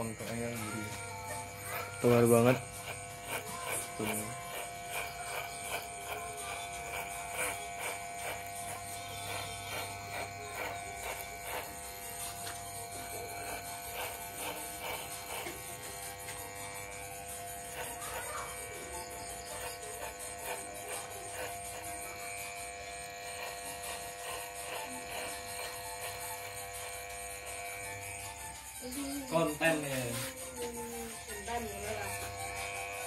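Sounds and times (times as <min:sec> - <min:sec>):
electric hair clipper buzzing: 0:00.0 - 0:33.0.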